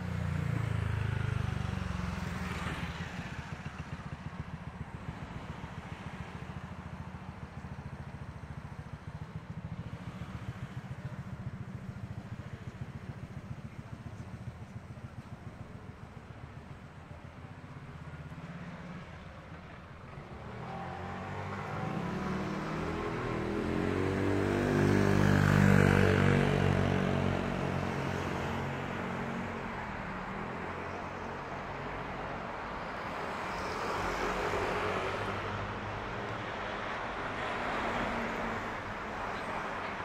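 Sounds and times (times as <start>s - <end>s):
street noise: 0.0s - 40.0s
traffic: 0.0s - 40.0s.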